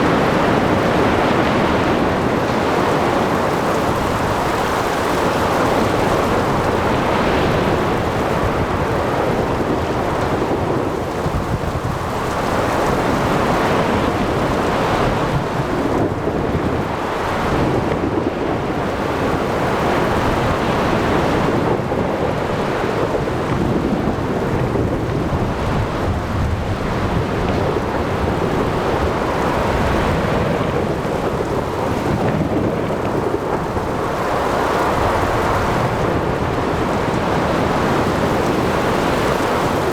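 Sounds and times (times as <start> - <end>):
heavy rain: 0.0 - 39.9
waves: 0.0 - 39.9
wind: 0.0 - 39.9.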